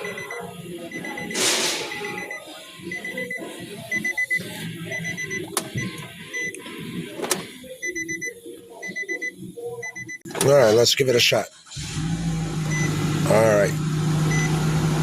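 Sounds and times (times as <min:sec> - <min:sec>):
car warning chime beeping: 0:00.0 - 0:10.8, 0:12.6 - 0:13.6, 0:14.3 - 0:14.6.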